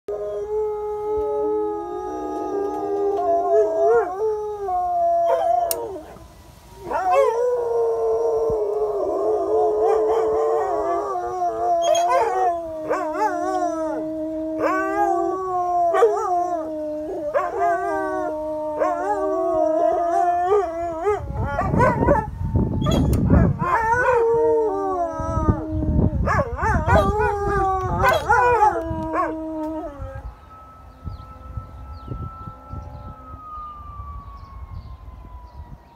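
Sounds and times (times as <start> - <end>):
dogs howling: 0.1 - 30.3.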